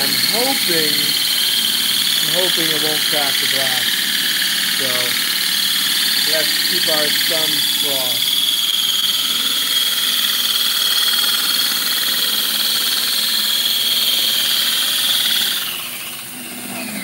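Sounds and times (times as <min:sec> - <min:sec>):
drill hole saw grinding glass: 0:00.0 - 0:17.0.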